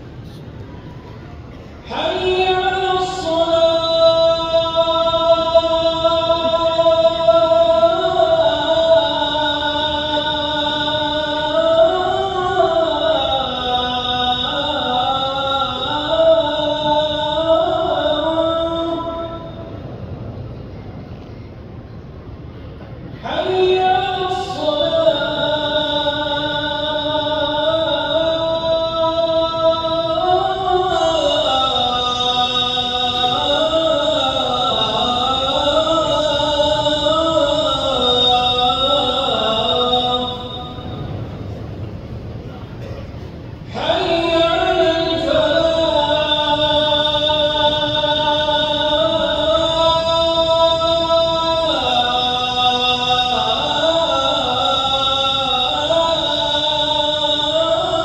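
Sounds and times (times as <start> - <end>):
man chanting into a microphone: 1.7 - 19.8, 23.2 - 41.5, 43.6 - 58.0.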